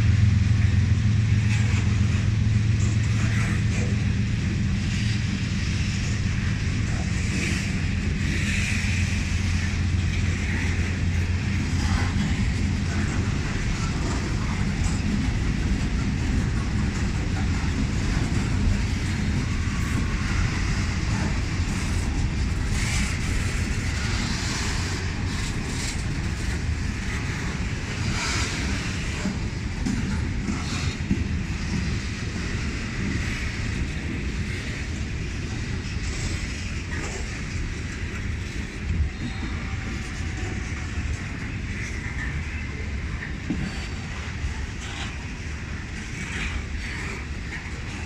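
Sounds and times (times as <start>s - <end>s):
freight train rumbling past: 0.0s - 48.0s
train clanks and squeals: 0.0s - 48.0s.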